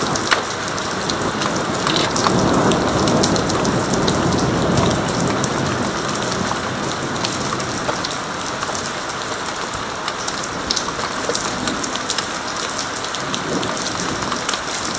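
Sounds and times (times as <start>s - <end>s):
raindrops ticking close by: 0.0s - 14.9s
steady rain falling: 0.0s - 14.9s.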